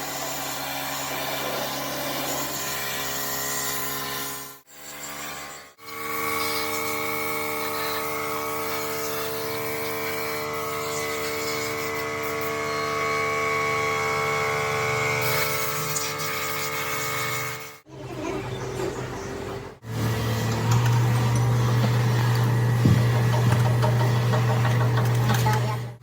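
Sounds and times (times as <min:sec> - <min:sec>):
workshop machine whine: 0:04.7 - 0:26.0.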